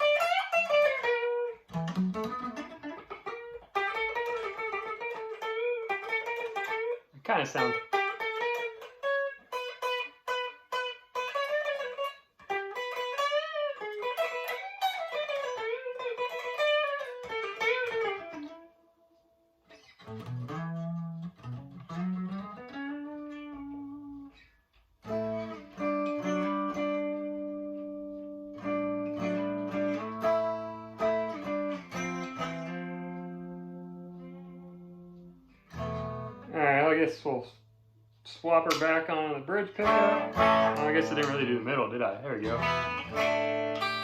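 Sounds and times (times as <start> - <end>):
electric guitar lead line: 0.0 - 18.8, 19.7 - 24.4, 25.0 - 37.4, 38.4 - 44.0
ringing guitar chords: 0.0 - 37.4, 38.6 - 44.0.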